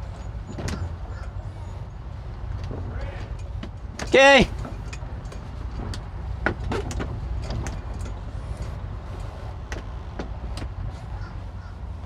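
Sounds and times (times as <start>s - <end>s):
boat engines idling: 0.0s - 12.0s.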